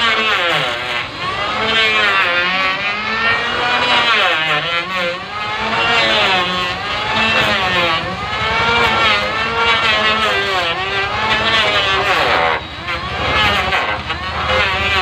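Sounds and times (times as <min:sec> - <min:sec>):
electric planer on wood: 0:00.0 - 0:15.0.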